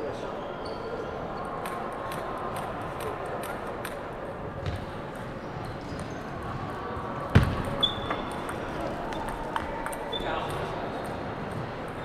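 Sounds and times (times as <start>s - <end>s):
large hall noise: 0.0s - 12.0s.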